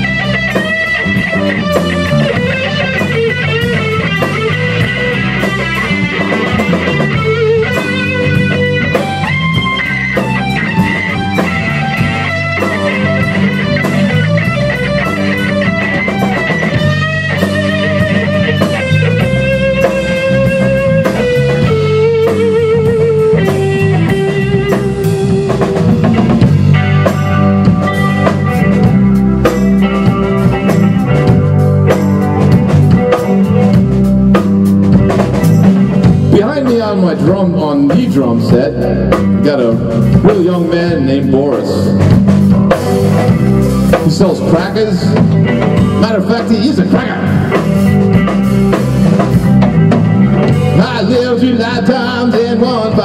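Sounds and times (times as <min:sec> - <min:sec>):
bass guitar: 0:00.0 - 0:53.0
drum kit: 0:00.0 - 0:53.0
electric guitar lead: 0:00.0 - 0:53.0.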